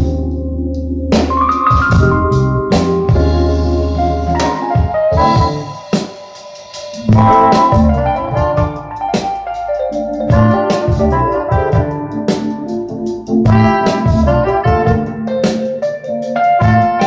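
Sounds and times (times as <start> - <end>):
music with deep bass and drums: 0.0 - 17.0.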